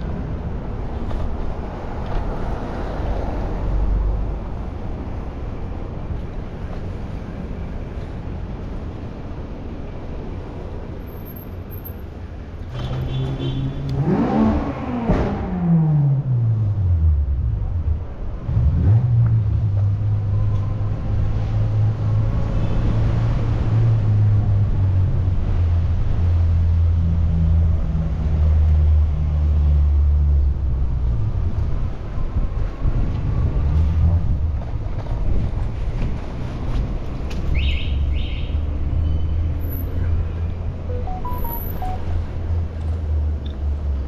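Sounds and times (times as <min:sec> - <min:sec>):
street traffic engine rumble: 0:00.0 - 0:44.0.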